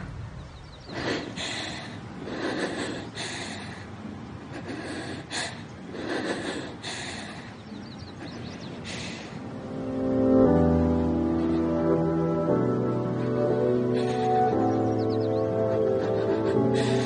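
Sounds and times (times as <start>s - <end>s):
low background hum: 0.0s - 17.0s
woman breathing hard: 0.8s - 9.6s, 10.5s - 17.0s.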